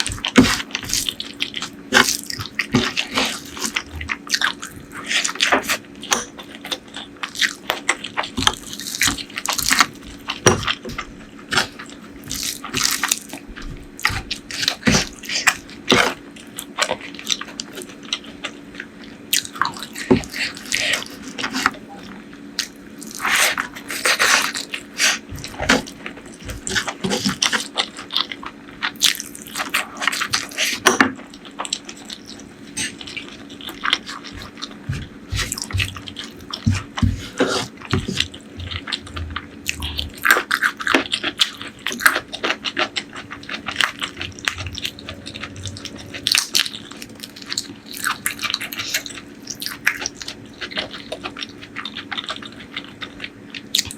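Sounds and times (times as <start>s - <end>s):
food crunch: 0.0s - 21.8s, 22.4s - 53.9s
chewing food: 0.0s - 53.9s.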